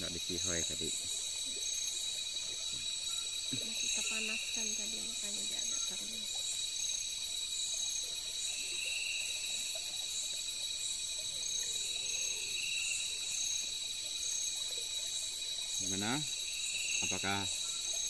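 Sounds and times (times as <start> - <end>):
high-pitched insect trills: 0.0 - 18.0
short high insect calls: 0.0 - 18.0.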